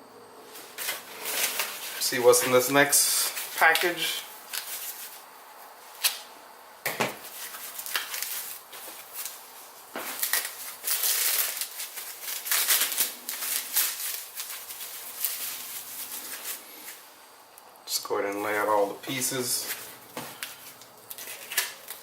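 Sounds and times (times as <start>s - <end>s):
wrapping rustling: 0.5s - 6.4s, 7.2s - 17.2s, 18.5s - 22.0s.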